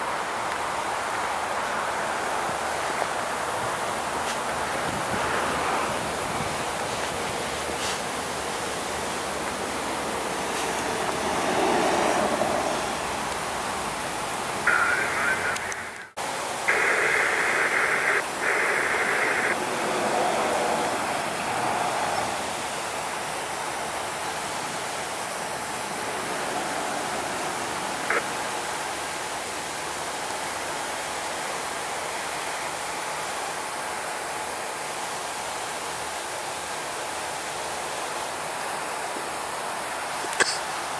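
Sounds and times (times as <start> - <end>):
steady rushing noise: 0.0 - 34.3
loud hiss: 0.0 - 40.9.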